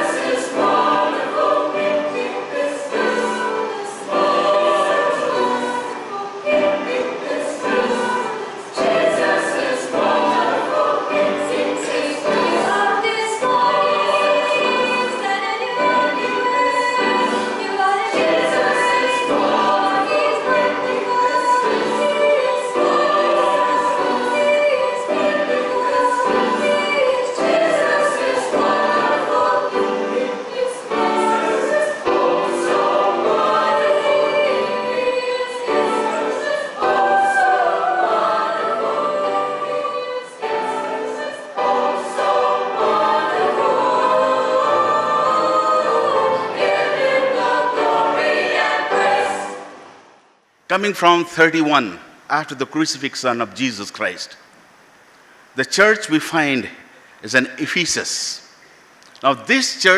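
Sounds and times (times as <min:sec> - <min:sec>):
choir singing a hymn: 0:00.0 - 0:50.2.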